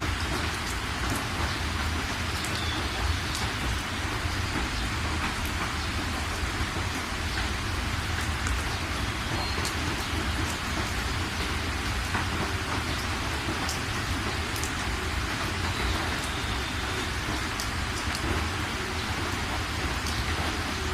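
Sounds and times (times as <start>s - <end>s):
heavy rain: 0.0s - 20.9s.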